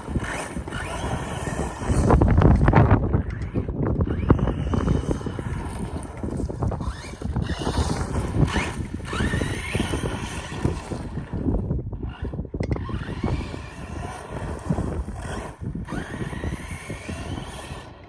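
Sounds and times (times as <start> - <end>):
electric motor whine: 0.0 - 18.0
wind buffeting microphone: 0.0 - 18.0.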